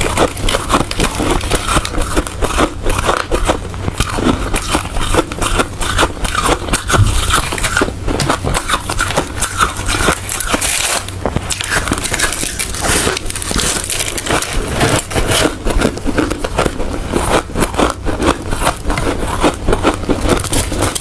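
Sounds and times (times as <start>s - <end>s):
ice crunching between teeth: 0.0s - 21.0s.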